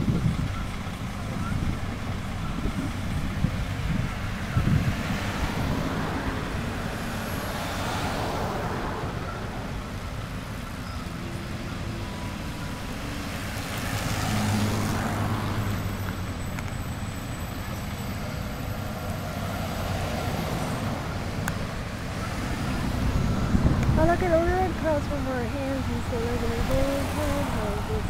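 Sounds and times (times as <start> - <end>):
cars and trucks driving past: 0.0 - 28.0
vehicle with low engine drone: 0.0 - 28.0.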